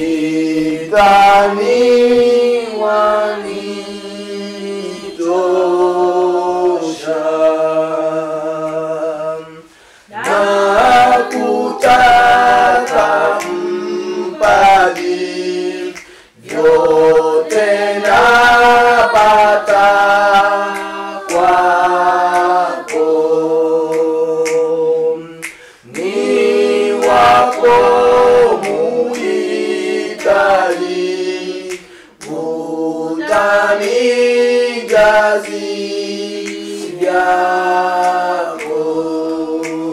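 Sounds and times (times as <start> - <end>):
a cappella group singing a hymn: 0.0 - 39.9.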